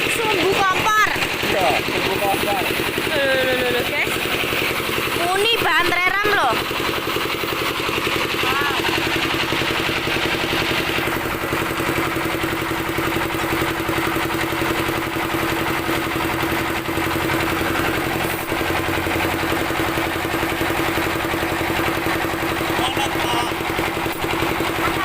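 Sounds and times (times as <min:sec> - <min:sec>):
small motor humming: 0:00.0 - 0:25.0.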